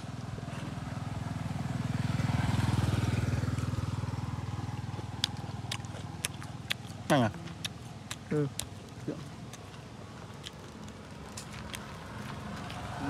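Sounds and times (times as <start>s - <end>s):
motorcycle passing: 0.0s - 13.0s.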